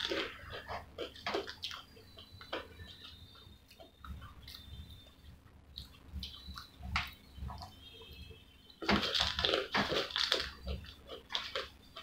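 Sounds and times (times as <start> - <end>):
fingers clicking on fries: 0.0 - 7.8, 8.8 - 12.0
crackling of fries: 0.0 - 12.0.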